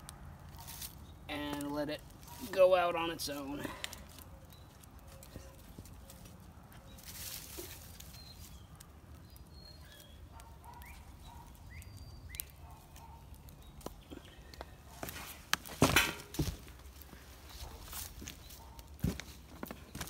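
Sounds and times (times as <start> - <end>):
firewood logs knocking and rustling: 0.4 - 9.5, 10.6 - 20.0.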